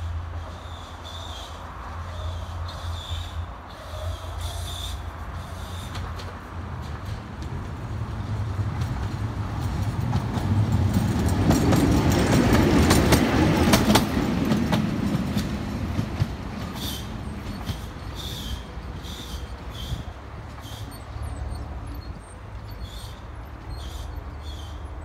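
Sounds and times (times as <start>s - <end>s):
tram running rumble: 0.0s - 25.0s
wheels clacking over rail joints: 4.1s - 25.0s.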